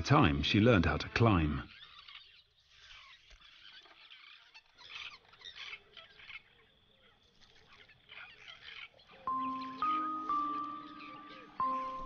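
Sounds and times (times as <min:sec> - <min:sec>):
faint chattering of birds: 0:00.0 - 0:12.0.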